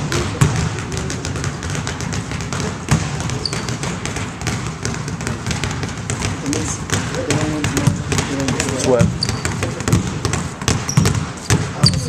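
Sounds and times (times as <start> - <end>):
basketballs bouncing on wood floor: 0.0 - 12.0.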